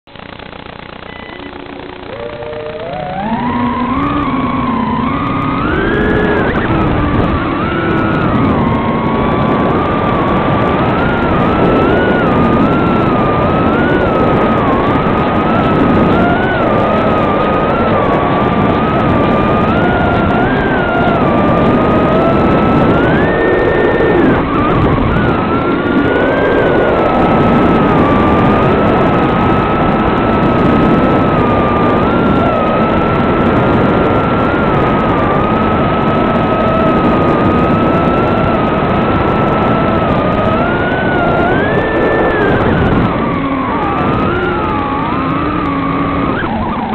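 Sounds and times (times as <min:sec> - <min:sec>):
steady rushing noise: 0:00.0 - 0:46.9
drone motors whining: 0:00.1 - 0:46.9.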